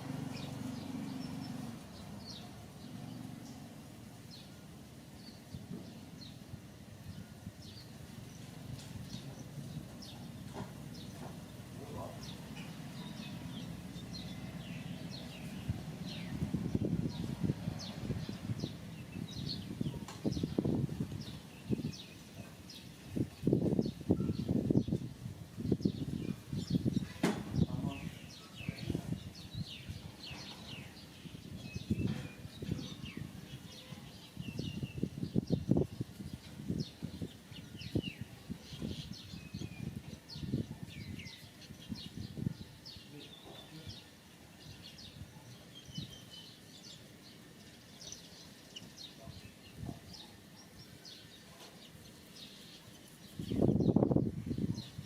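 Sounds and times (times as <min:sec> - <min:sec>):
high falling chirping calls: 0:07.0 - 0:55.0.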